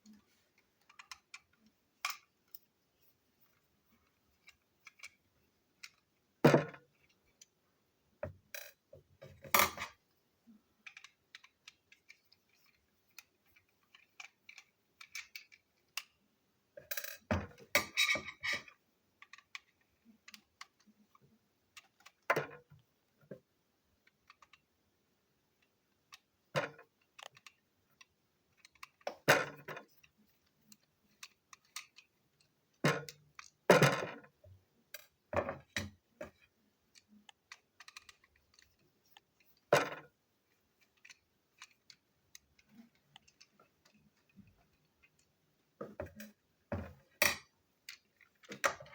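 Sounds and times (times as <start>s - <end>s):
plastic toy parts clicking: 0.0s - 2.8s, 4.0s - 6.2s, 8.4s - 22.8s, 23.4s - 24.8s, 25.4s - 46.5s, 47.1s - 48.9s.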